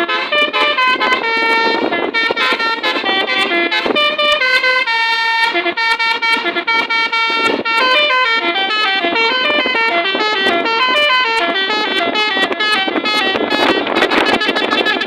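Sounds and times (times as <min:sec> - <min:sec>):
musical bus horn playing tune: 0:00.0 - 0:15.0.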